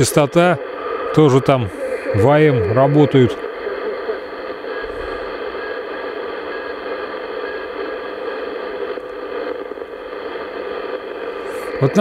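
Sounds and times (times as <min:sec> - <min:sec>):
radio hiss and static: 0:00.0 - 0:12.0.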